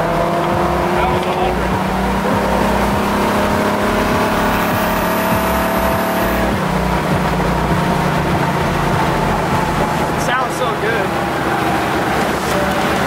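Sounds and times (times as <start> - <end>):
car engine accelerating: 0.0 - 13.0
road and wind noise: 0.0 - 13.0.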